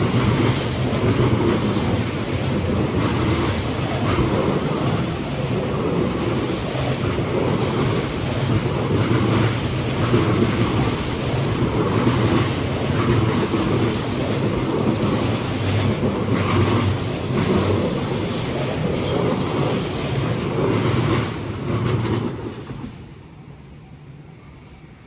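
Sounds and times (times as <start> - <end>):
wheels clacking over rail joints: 0.0 - 23.0
freight train wagons rolling past: 0.0 - 24.9.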